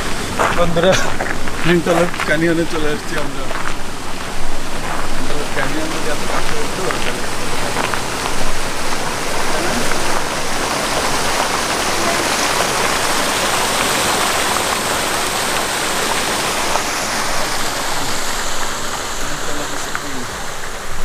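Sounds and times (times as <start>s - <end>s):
water rushing over rocks: 0.0s - 21.0s.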